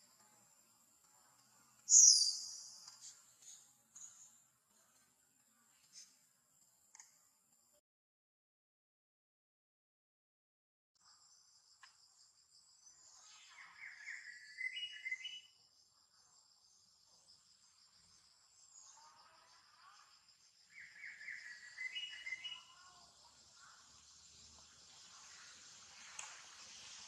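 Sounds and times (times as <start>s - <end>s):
insects buzzing: 0.0s - 7.8s, 11.0s - 27.0s.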